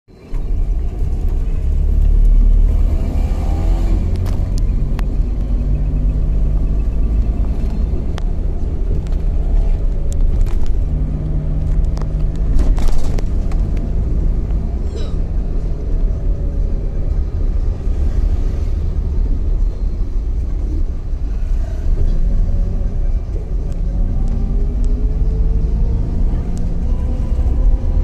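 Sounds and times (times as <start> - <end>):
engine and road rumble: 0.1 - 28.0.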